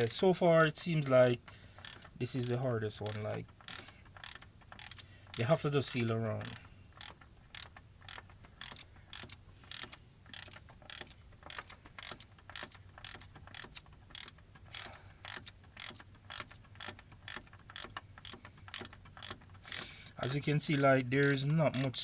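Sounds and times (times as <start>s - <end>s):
hand ratchet clicking: 0.0s - 22.0s.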